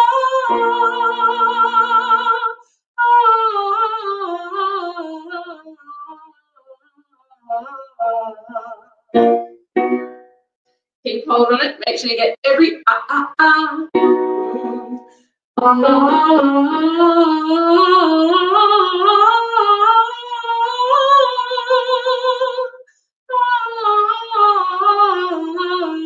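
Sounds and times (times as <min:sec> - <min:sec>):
woman singing vocal exercise: 0:00.0 - 0:09.0, 0:12.6 - 0:26.0.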